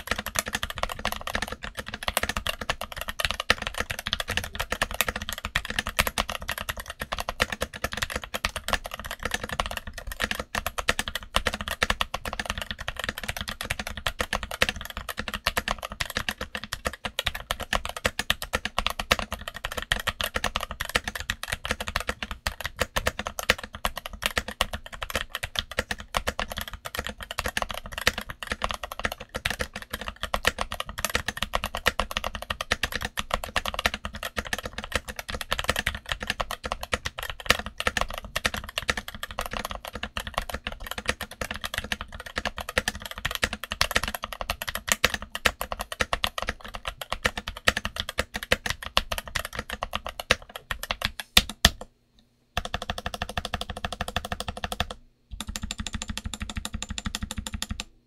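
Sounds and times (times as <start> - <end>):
mechanical keyboard typing: 0.0 - 51.9, 52.6 - 58.0.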